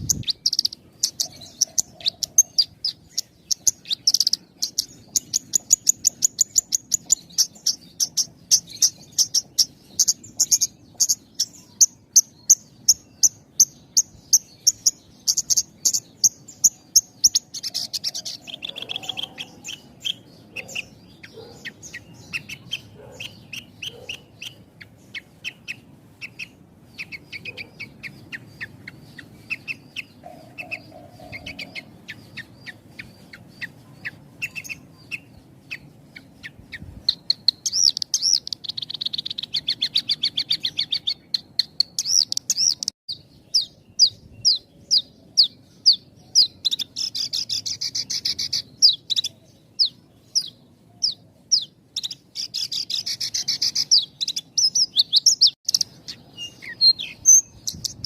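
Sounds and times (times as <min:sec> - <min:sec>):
bird chirping in fast trills: 0:00.0 - 0:58.0.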